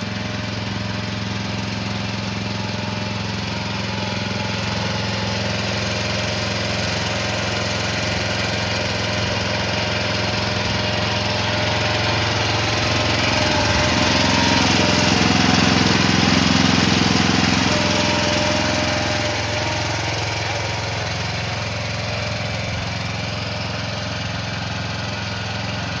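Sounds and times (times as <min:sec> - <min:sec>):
mini excavator engine running: 0:00.0 - 0:26.0.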